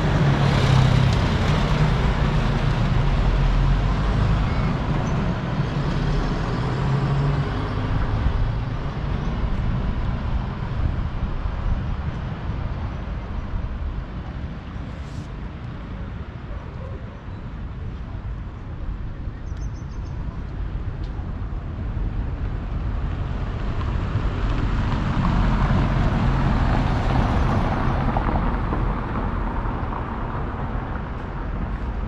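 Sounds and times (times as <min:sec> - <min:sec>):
street traffic: 0:00.0 - 0:32.0.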